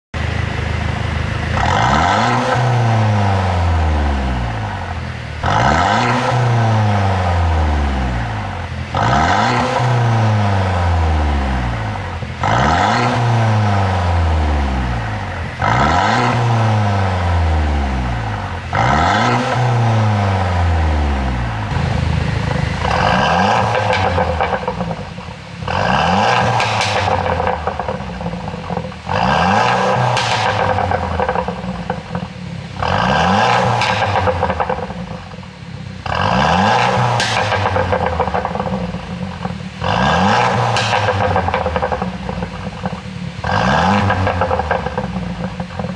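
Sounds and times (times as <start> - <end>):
car engine revving: 0.2 - 45.9
exhaust pops and crackles: 4.5 - 45.9.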